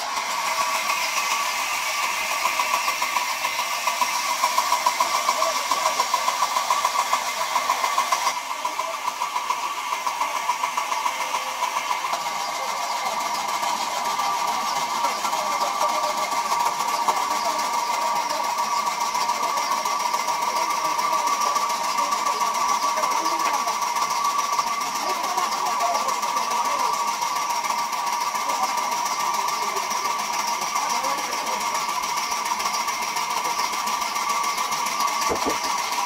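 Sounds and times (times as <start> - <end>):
band saw whining: 0.0 - 36.0.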